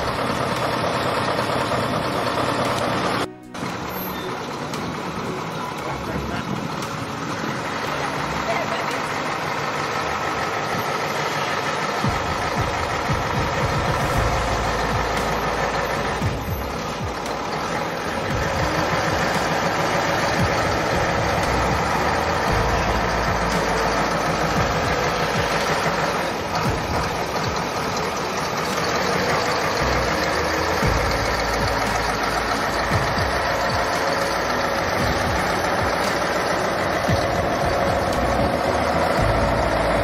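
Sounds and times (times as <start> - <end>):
truck diesel engine running: 0.0 - 40.0.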